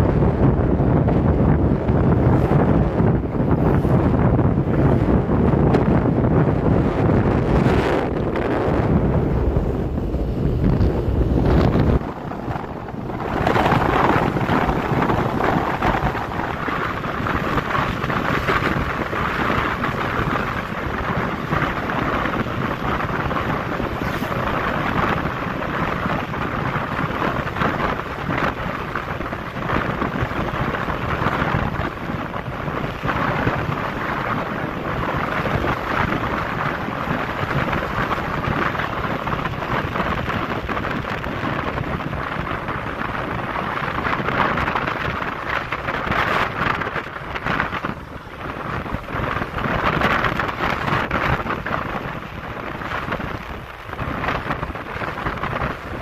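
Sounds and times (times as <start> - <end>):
motorcycle road noise: 0.0 - 56.0
wind on microphone: 0.0 - 56.0.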